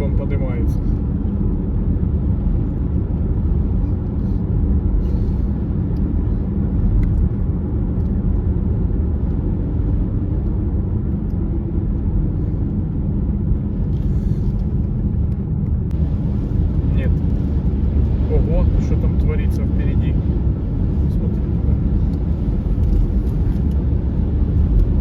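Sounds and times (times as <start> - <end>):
car driving rumble: 0.0 - 25.0
road noise: 0.0 - 25.0
strong wind noise: 0.9 - 25.0.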